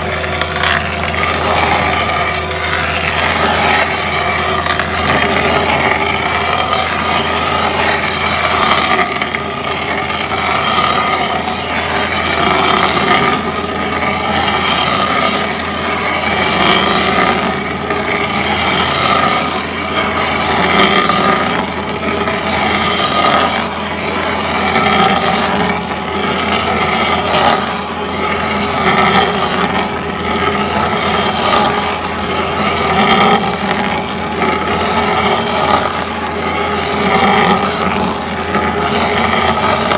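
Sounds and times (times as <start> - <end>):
stump grinder running under load: 0.0 - 39.9.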